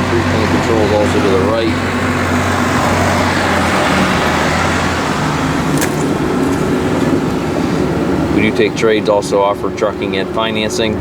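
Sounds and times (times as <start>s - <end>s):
tractor diesel engine running: 0.0s - 10.1s.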